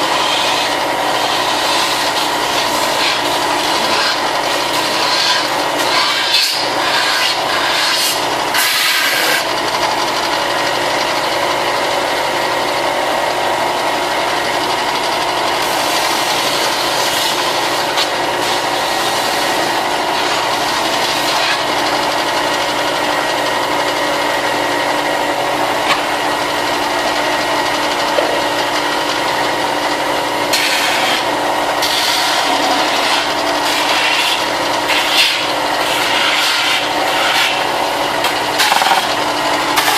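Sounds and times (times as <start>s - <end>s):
sander motor hum: 0.0s - 39.9s
sander rasping grind: 0.0s - 39.9s.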